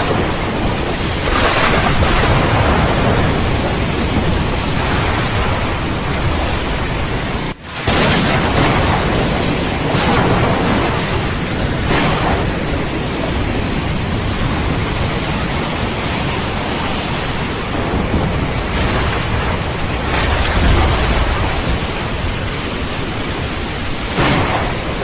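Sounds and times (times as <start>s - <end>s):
heavy rain: 0.0s - 25.0s
thunder rumbling: 0.0s - 25.0s.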